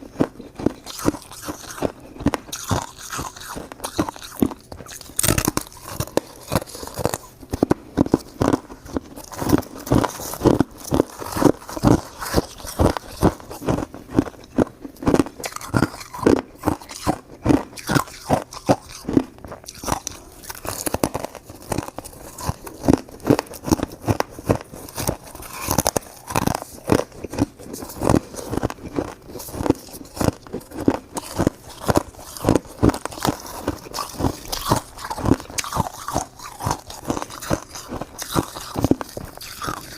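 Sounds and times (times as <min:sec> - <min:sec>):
shaved ice being chewed: 0:00.0 - 0:39.9.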